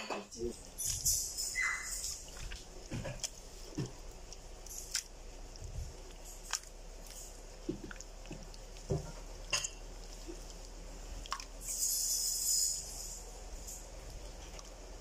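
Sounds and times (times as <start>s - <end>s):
slime squelching: 0.4s - 15.0s.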